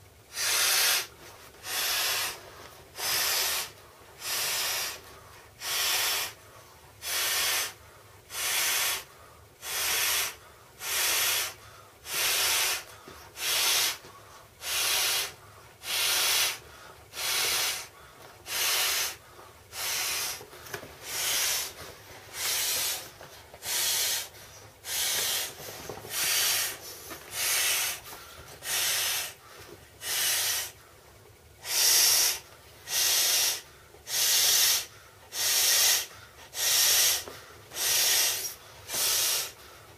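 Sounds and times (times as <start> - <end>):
breath puffs into inflation valve: 0.3 - 2.4, 3.0 - 6.4, 7.0 - 29.4, 30.0 - 30.8, 31.6 - 39.6
quick breaths in: 0.3 - 31.0, 31.6 - 39.9.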